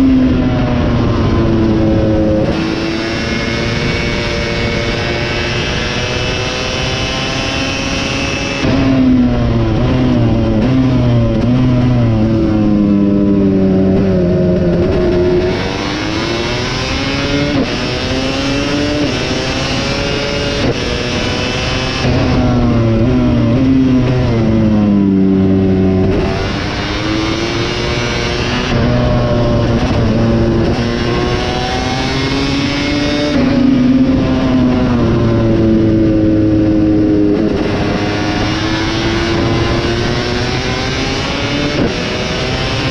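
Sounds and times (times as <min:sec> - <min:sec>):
two-stroke motorcycle engine racing: 0:00.0 - 0:42.9.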